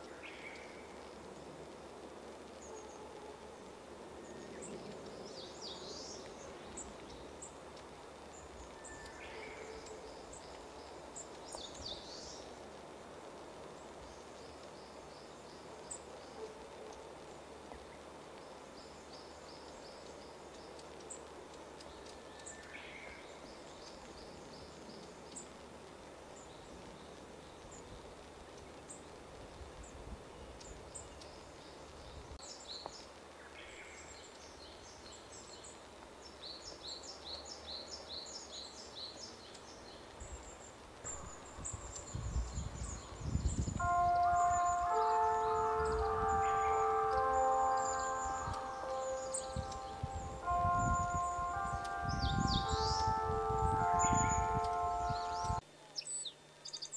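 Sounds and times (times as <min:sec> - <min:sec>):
songbirds singing: 0:00.0 - 0:12.8, 0:13.6 - 0:56.9
background hiss: 0:00.0 - 0:56.9.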